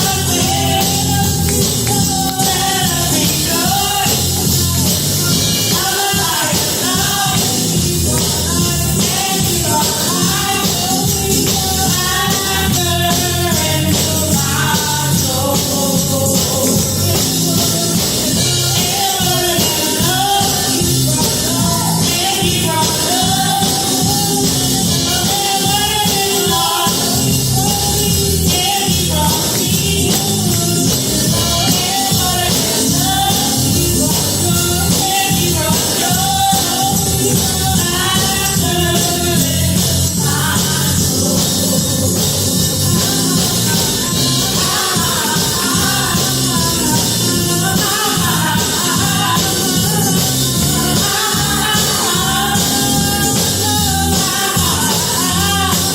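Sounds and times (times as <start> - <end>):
worship singing over a band: 0.0 - 55.9.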